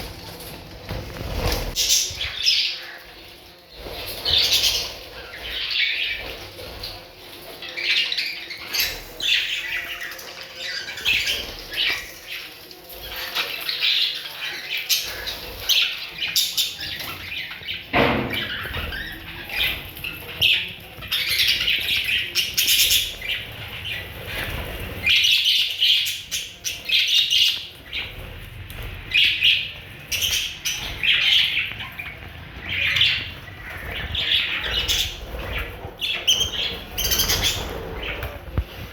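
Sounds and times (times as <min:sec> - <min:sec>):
parrots squawking and chirping: 0:01.2 - 0:38.9.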